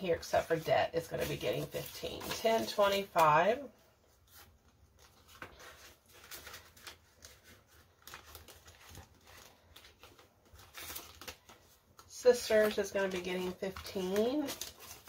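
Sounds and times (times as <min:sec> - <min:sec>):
plastic pages rustling: 0:00.0 - 0:15.0
paper banknotes crinkling: 0:00.2 - 0:15.0.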